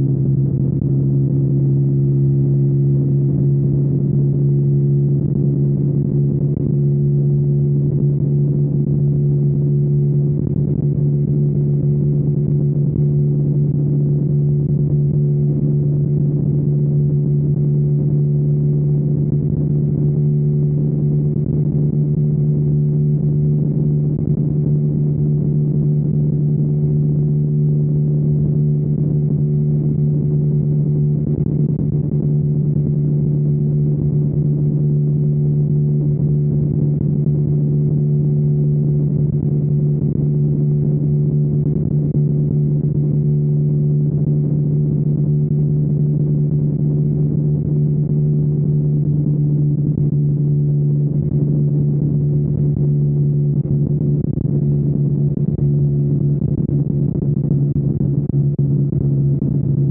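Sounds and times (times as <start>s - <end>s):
motorcycle engine running steadily: 0.0s - 59.9s.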